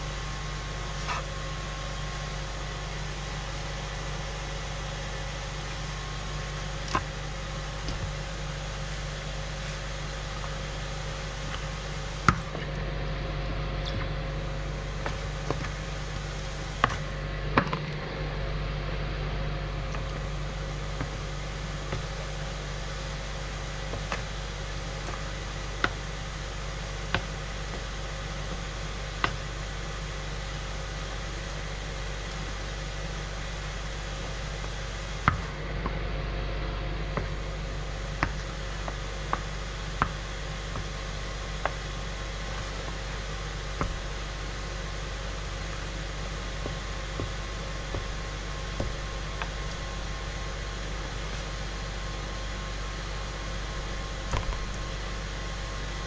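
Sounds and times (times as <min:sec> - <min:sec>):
steady background hum: 0:00.0 - 0:56.0.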